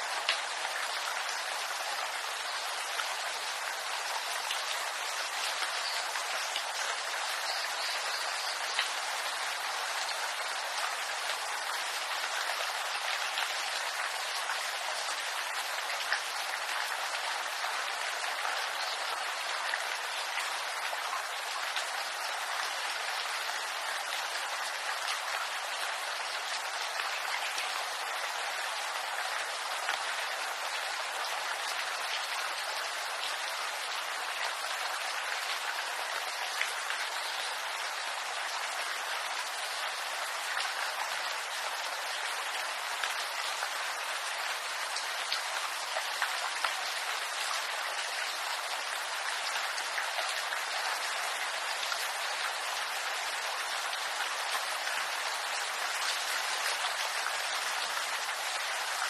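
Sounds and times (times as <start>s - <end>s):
rain on bamboo leaves: 0.0s - 59.0s.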